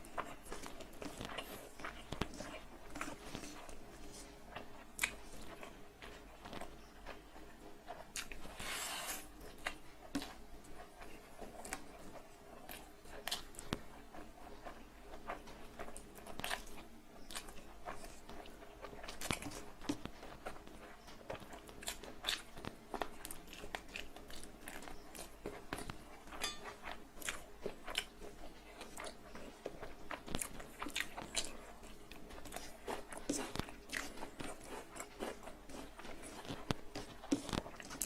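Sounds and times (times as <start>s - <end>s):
person chewing food wetly: 0.0s - 38.0s.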